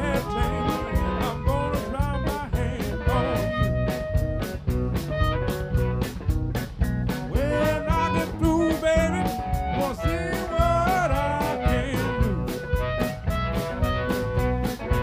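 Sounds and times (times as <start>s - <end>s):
blues band playing: 0.0s - 15.0s
harmonica bending notes: 0.0s - 15.0s.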